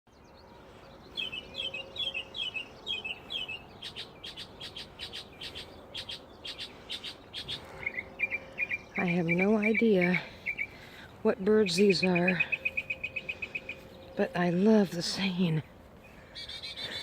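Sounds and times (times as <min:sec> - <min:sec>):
songbirds singing: 0:00.1 - 0:17.0.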